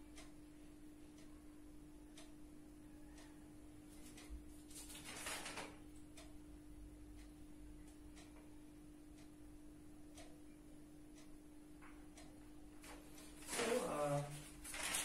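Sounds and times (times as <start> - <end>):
steady low hum: 0.0 - 4.9, 5.8 - 15.0
clock ticking: 0.0 - 15.0.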